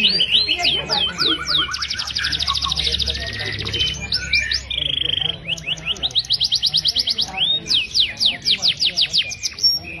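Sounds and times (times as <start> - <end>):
finch singing: 0.0 - 10.0.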